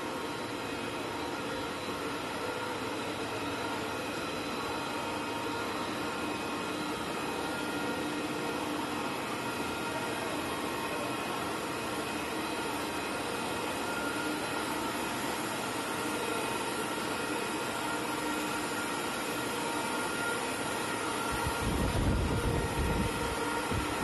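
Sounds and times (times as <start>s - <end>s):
machinery whirring hum: 0.0s - 24.0s.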